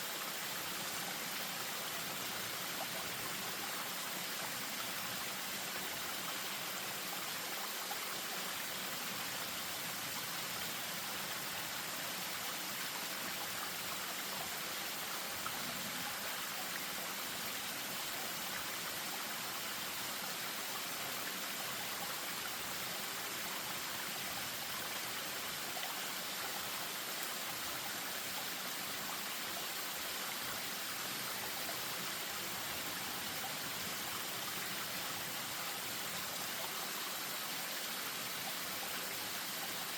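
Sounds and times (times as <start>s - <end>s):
stream over small waterfall: 0.0s - 39.9s.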